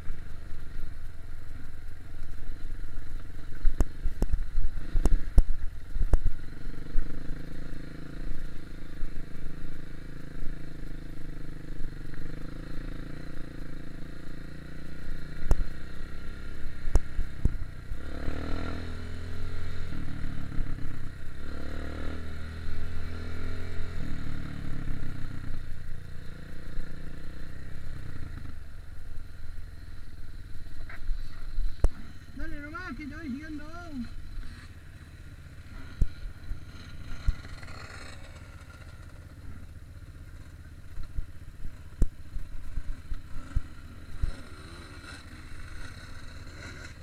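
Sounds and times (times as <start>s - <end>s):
dirt bike engine running: 0.0s - 47.0s.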